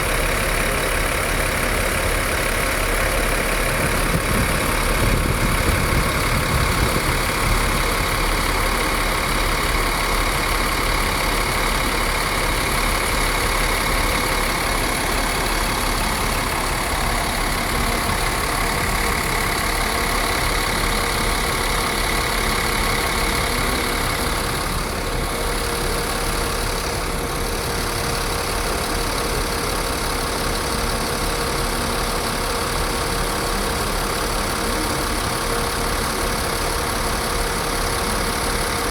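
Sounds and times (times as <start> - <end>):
diesel bus engine idling: 0.0 - 38.9.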